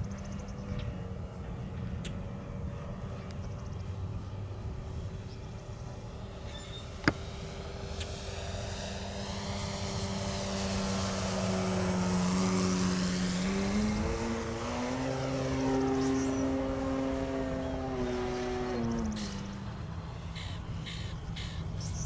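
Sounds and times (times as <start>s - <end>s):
model plane motor whine: 0.0s - 22.0s.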